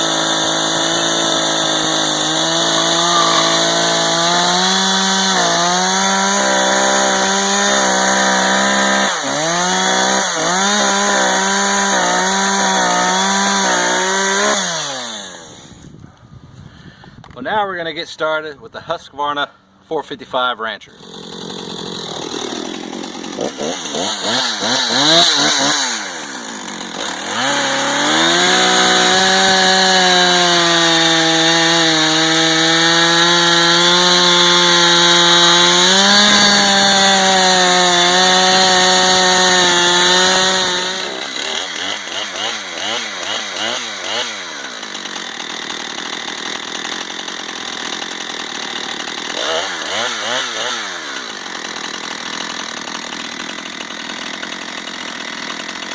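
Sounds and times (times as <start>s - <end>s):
chainsaw revving and cutting wood: 0.0s - 15.9s, 20.9s - 55.9s.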